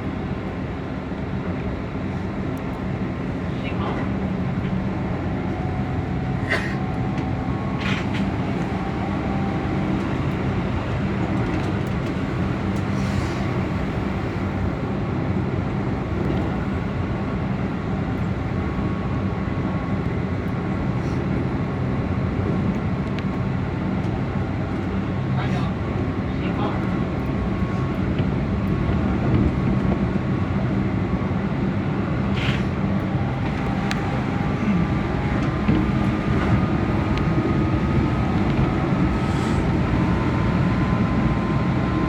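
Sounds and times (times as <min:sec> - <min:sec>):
electric train rumbling on rails: 0:00.0 - 0:42.0.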